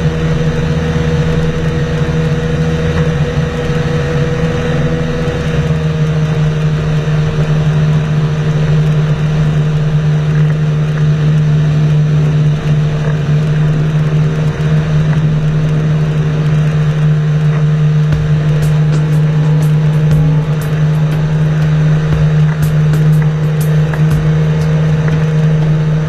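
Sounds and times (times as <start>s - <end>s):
engine droning steadily: 0.0s - 26.0s.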